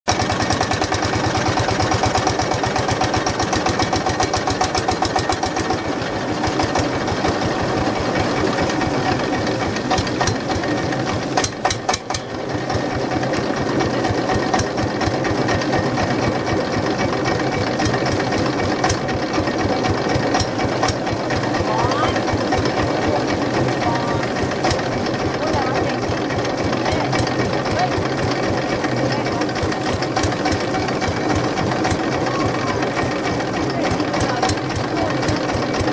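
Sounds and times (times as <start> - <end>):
boat engine running: 0.1 - 35.9.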